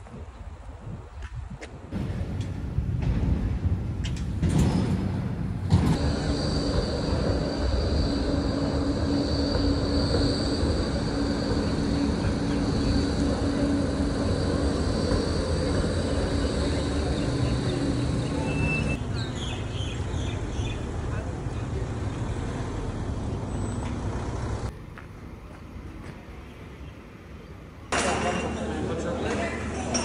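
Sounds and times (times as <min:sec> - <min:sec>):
street noise: 0:00.0 - 0:30.0
tram electric hum and whine: 0:00.0 - 0:30.0
tram wheels rumbling: 0:00.0 - 0:30.0.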